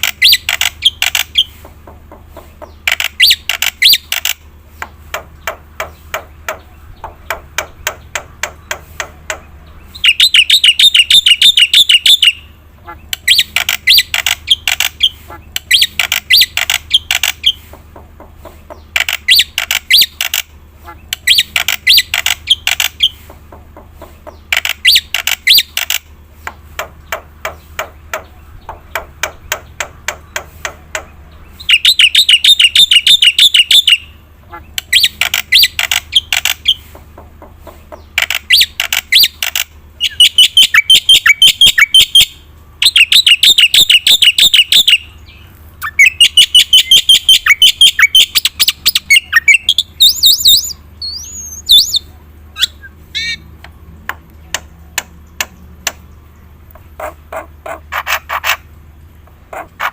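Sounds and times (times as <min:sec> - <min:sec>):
bird singing chattering notes: 0:00.0 - 0:59.9.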